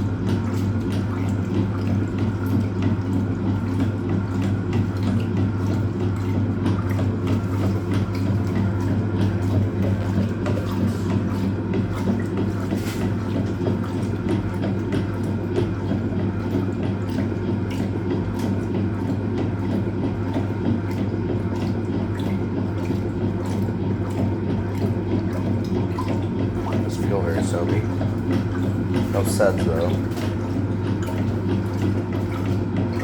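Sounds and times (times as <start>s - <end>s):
washing machine motor hum: 0.0s - 33.0s
water splashing and sloshing: 0.0s - 33.0s.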